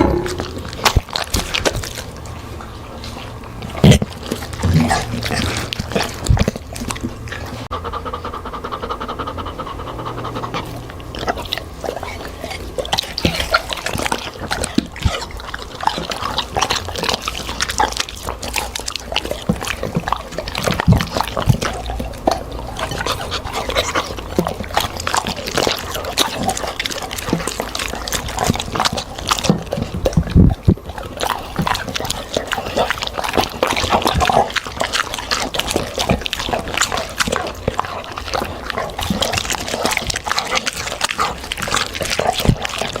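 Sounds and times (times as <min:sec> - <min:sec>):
dog chewing and crunching: 0:00.0 - 0:43.0.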